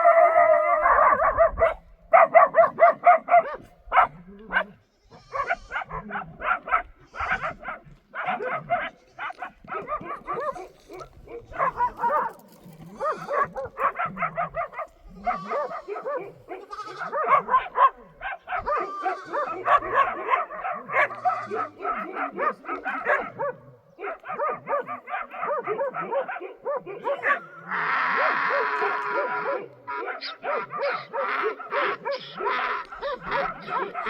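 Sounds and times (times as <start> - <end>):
animals calling: 3.4 - 34.0.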